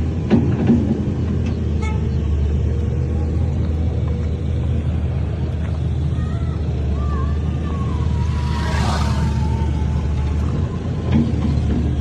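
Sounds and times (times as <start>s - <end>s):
heavy diesel machinery rumbling: 0.0s - 12.0s.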